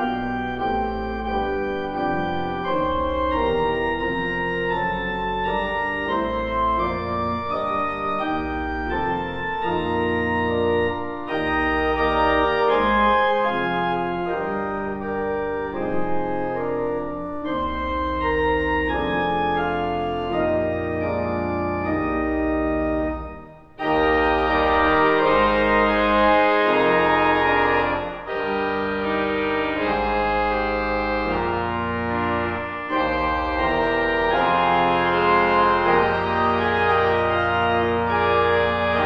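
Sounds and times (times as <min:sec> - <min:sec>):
organ playing sustained chords: 0:00.0 - 0:39.0.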